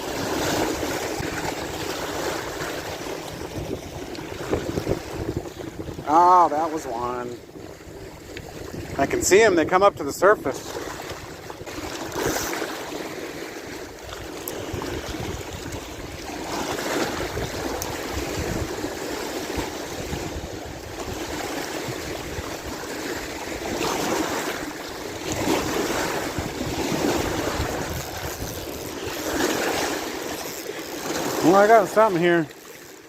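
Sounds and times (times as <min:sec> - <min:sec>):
wind rumbling on microphone: 0:00.0 - 0:31.9
waves washing against shore: 0:00.0 - 0:33.0.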